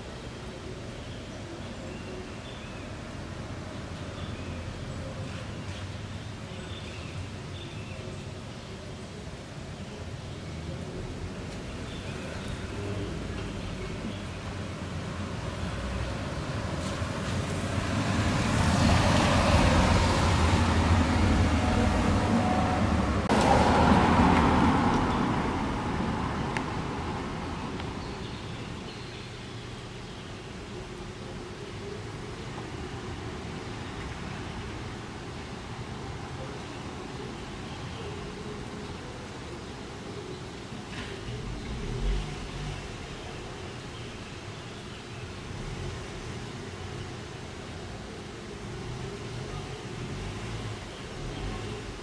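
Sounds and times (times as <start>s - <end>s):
low city rumble: 0.0s - 52.0s
road traffic rushing: 0.0s - 52.0s.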